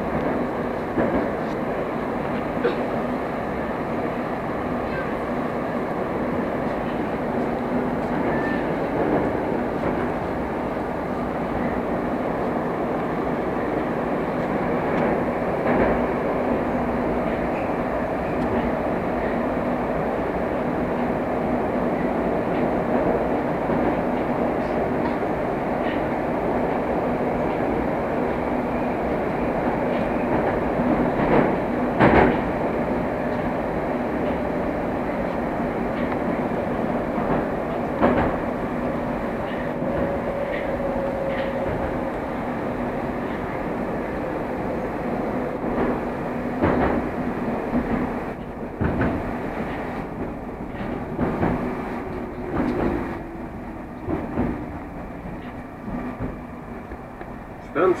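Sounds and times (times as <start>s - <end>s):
train clatter: 0.0s - 58.0s
train wheels and motors rumbling: 0.0s - 58.0s.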